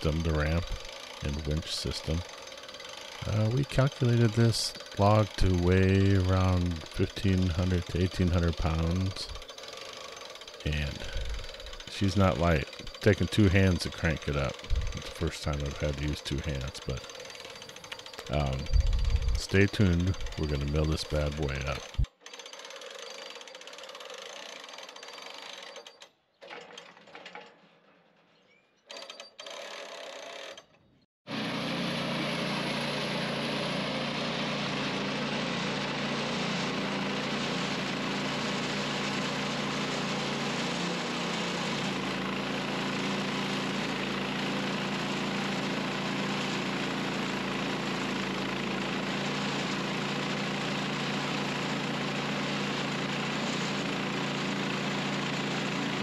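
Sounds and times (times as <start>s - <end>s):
sawmill engine running: 0.0s - 26.0s, 31.3s - 56.0s.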